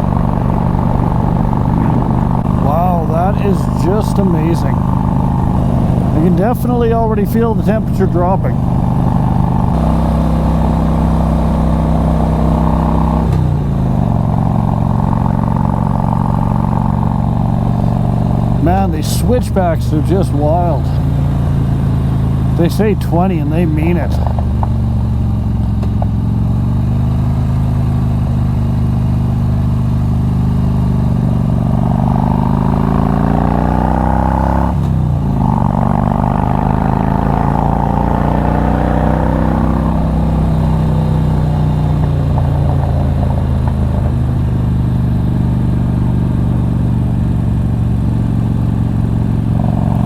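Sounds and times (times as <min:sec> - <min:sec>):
motorcycle engine under load: 0:00.0 - 0:50.0.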